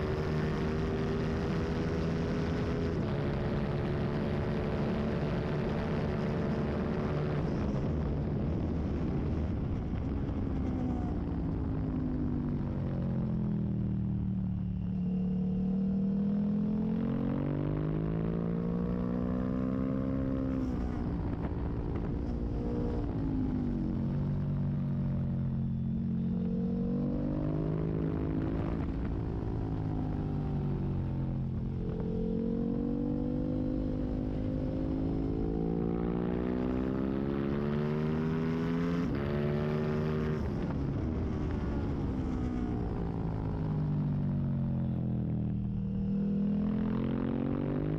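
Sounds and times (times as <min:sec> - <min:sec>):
racing motorcycle engine: 0:00.0 - 0:47.9.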